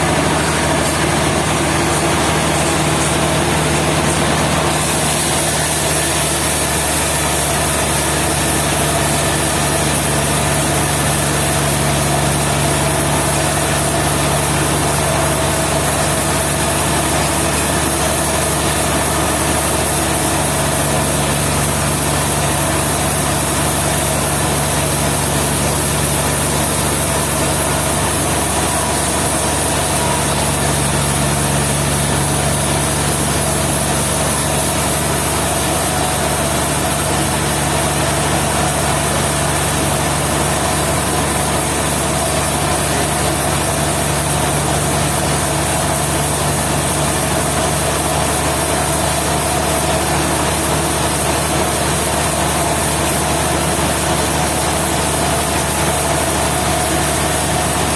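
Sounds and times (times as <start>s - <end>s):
machine running loudly: 0.0s - 57.9s.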